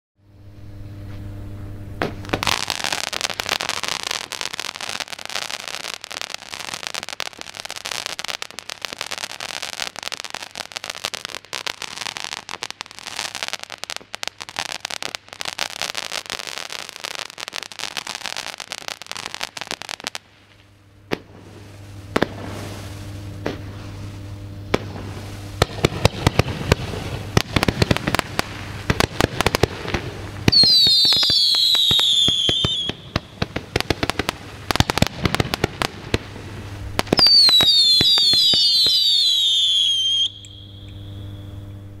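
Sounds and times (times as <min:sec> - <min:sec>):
firework pops and bangs: 0:02.0 - 0:20.2, 0:21.1 - 0:23.9, 0:24.7 - 0:36.3, 0:37.0 - 0:40.3
firework crackling: 0:02.0 - 0:42.0
firework whistles: 0:02.1 - 0:20.2, 0:21.2 - 0:36.2, 0:36.8 - 0:42.0.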